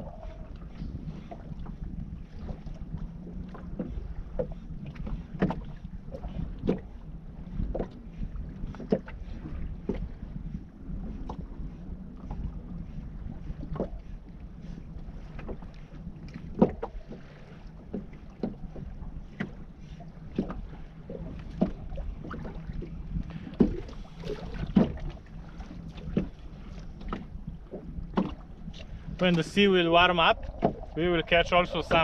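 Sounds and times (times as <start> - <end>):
waves slapping boat hull: 0.0 - 32.0
wind rumble on microphone: 0.0 - 32.0.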